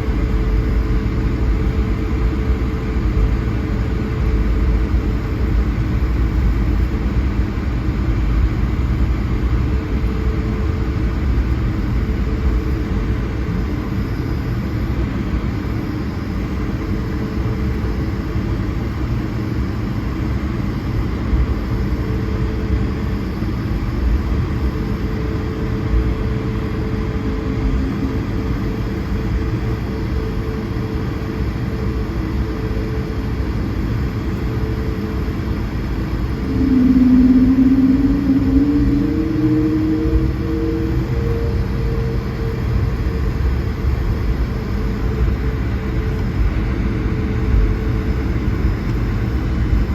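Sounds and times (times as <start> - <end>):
faint constant hum: 0.0 - 49.9
jet engine cabin rumble: 0.0 - 49.9.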